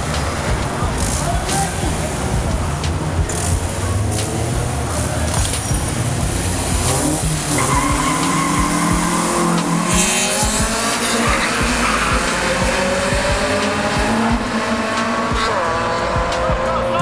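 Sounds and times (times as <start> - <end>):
car engines revving hard: 0.0 - 17.0
tyres squealing: 0.0 - 17.0.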